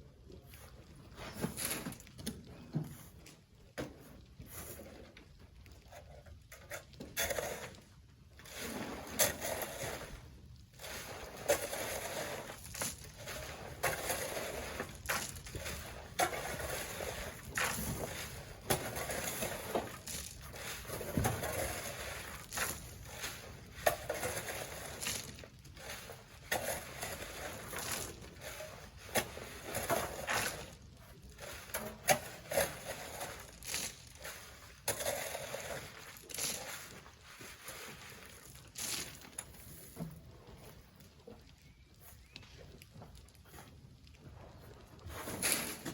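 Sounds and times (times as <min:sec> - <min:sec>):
sand scraping and crunching: 0:06.8 - 0:40.9, 0:43.0 - 0:45.9.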